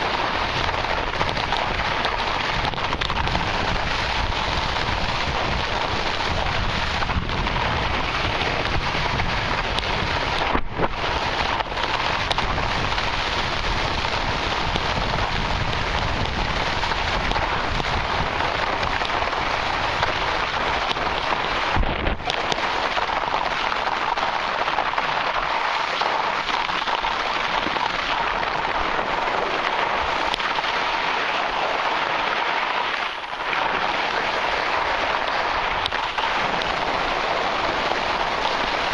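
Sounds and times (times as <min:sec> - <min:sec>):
ski edges scraping snow: 0:00.0 - 0:38.9
skis hissing on snow: 0:00.0 - 0:38.9
wind rumbling on microphone: 0:00.0 - 0:38.9.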